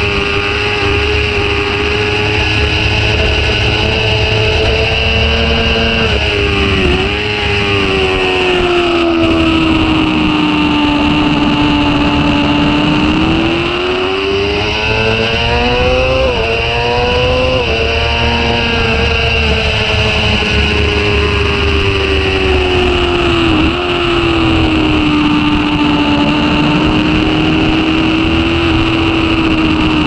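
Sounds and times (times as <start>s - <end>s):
motorcycle engine revving: 0.0s - 30.0s
wind rush: 0.0s - 30.0s.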